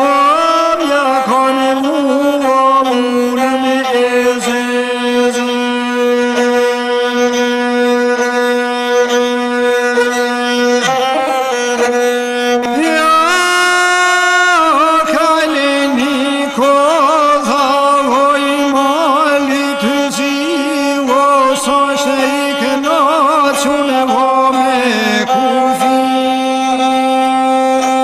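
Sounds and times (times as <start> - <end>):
man singing: 0.0 - 8.4, 12.6 - 28.0
bowed single-string fiddle: 0.0 - 28.0.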